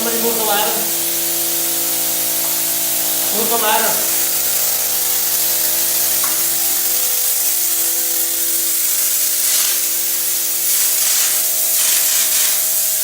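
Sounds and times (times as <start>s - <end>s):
spray gun air hiss: 0.0s - 13.0s
steady hum: 0.0s - 13.0s.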